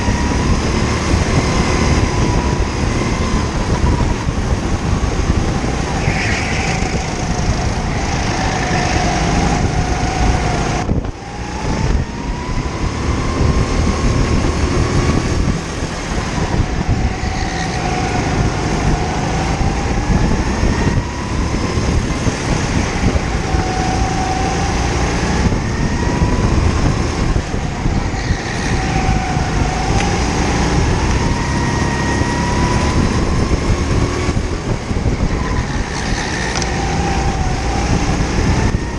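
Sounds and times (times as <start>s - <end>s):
racing kart engine revving: 0.0s - 38.9s
wind noise: 0.0s - 38.9s.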